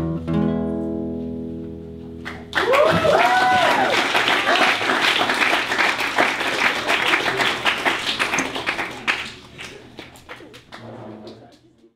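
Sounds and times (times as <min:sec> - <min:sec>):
small audience applauding: 0:02.2 - 0:11.9.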